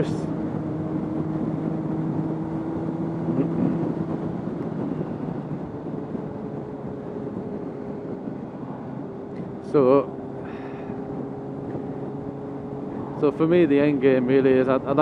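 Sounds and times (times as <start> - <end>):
motorcycle engine hum: 0.0 - 15.0
wind and road noise: 0.0 - 15.0.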